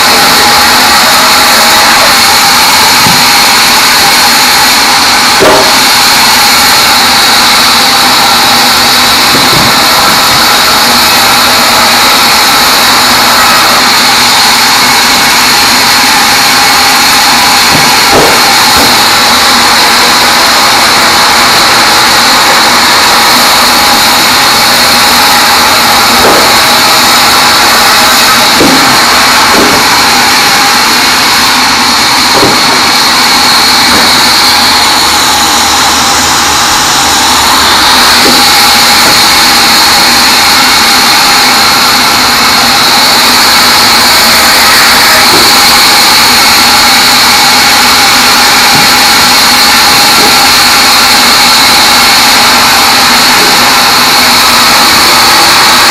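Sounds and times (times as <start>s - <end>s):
band saw cutting logs: 0.0s - 55.9s
high whine: 0.0s - 55.9s.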